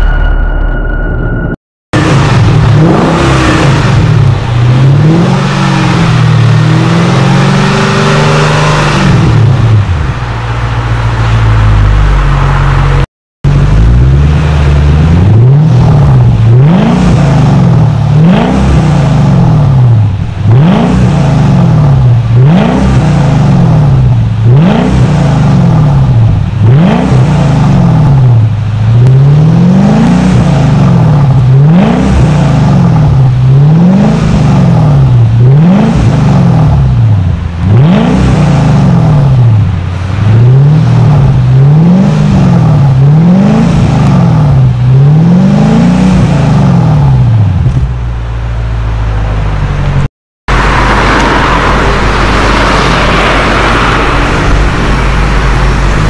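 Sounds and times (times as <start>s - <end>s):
car engine revving: 1.3s - 56.0s.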